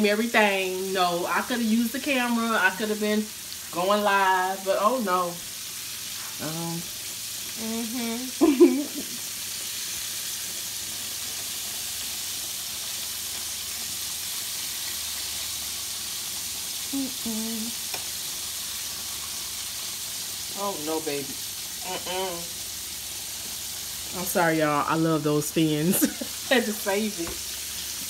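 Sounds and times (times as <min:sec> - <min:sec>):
fish frying in hot oil: 0:00.0 - 0:28.0.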